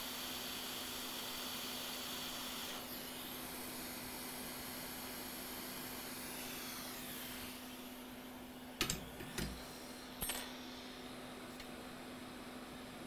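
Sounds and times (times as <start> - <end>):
hot air blower hissing: 0.0 - 13.0.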